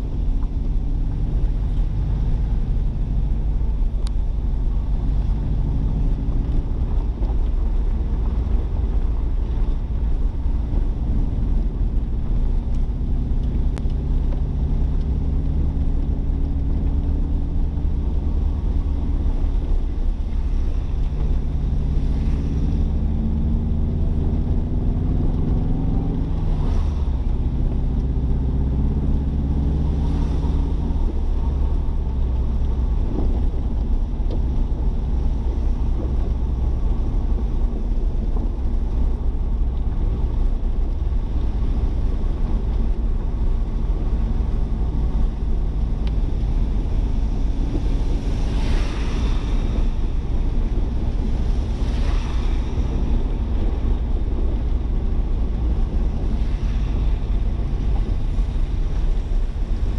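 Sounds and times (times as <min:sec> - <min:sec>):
car engine rumble from inside: 0:00.0 - 0:59.9.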